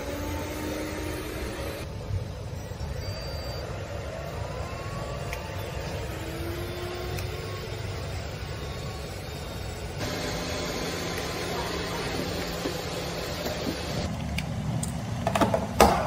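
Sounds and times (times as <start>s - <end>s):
robot vacuum motor hum: 0.0s - 1.9s, 2.7s - 14.1s.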